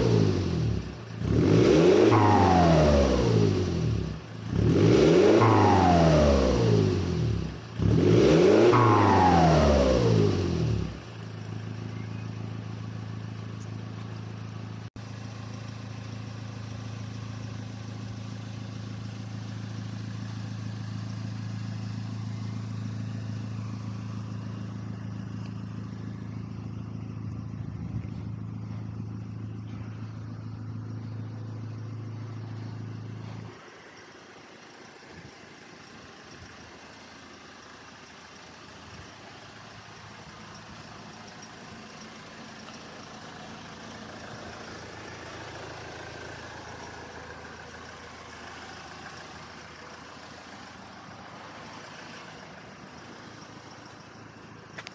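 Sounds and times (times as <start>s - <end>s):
diesel car engine idling: 0.0s - 54.9s
faint outdoor background noise: 0.0s - 54.9s.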